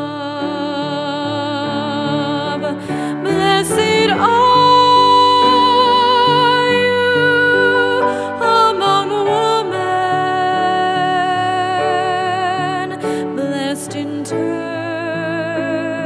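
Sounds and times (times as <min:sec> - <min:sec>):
piano chords: 0:00.0 - 0:16.0
woman singing a hymn: 0:00.0 - 0:16.0.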